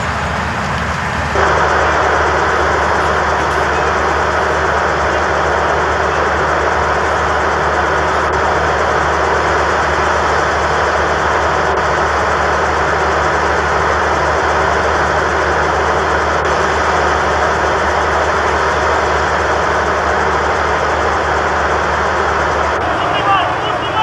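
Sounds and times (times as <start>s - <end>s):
diesel engines running: 0.0s - 24.0s
loud even hiss: 1.4s - 24.0s.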